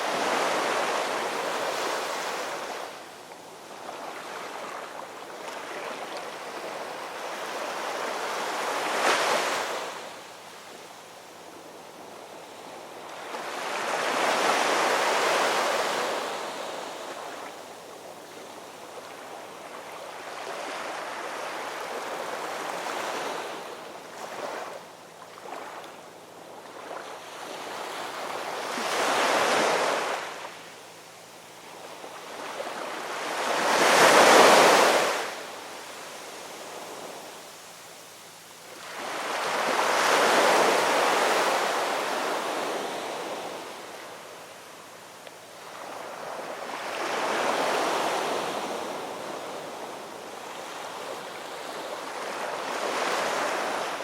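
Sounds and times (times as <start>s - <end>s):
ocean waves breaking on shore: 0.0s - 10.8s, 11.6s - 30.6s, 31.6s - 37.8s, 38.6s - 44.8s, 45.5s - 54.0s.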